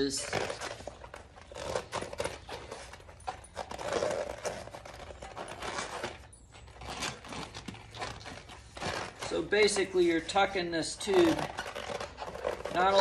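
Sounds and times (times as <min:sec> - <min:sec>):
rubber rubbing and scraping: 0:00.0 - 0:13.0.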